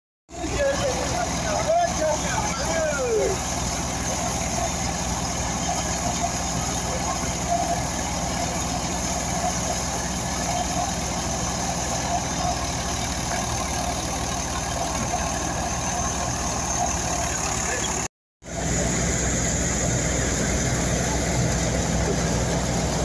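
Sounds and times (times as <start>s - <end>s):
tractor diesel engine running: 0.3s - 23.0s.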